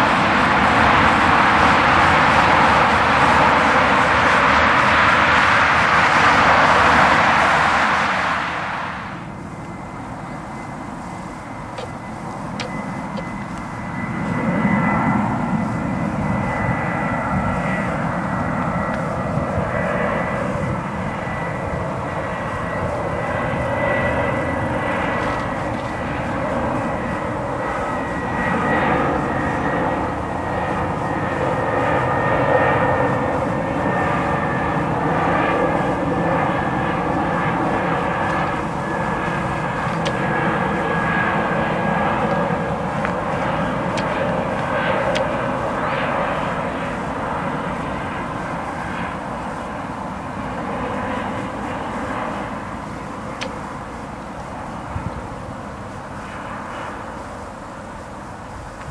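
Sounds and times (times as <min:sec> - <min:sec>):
jet airliner passing overhead: 0:00.0 - 0:58.9.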